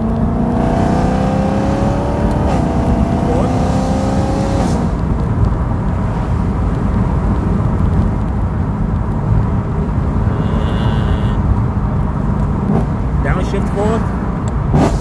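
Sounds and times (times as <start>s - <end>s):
car exhaust rumble: 0.0s - 15.0s
road noise: 0.0s - 15.0s.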